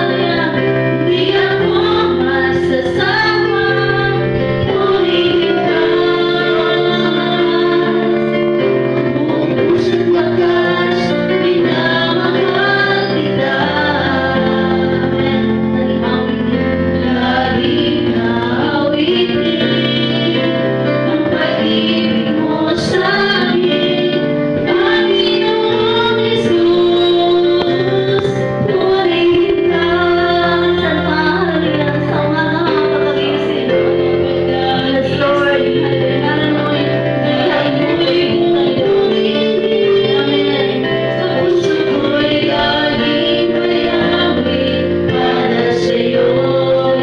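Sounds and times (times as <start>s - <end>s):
amplified instrumental accompaniment: 0.0s - 47.0s
women singing worship song: 0.0s - 47.0s.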